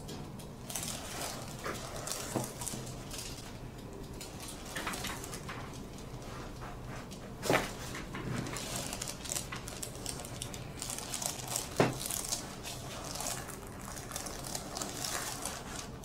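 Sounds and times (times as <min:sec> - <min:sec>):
paper crinkling and rustling: 0:00.5 - 0:16.0.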